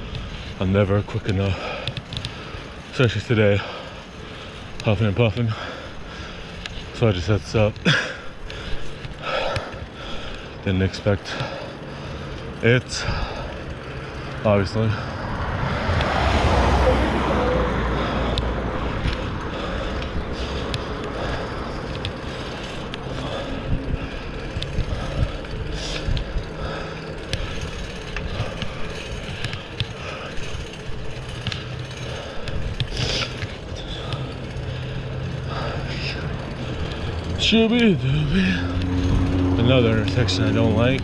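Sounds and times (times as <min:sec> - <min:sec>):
bike clicks and rattles: 0:00.0 - 0:41.0
bike tyres on asphalt: 0:00.0 - 0:41.0.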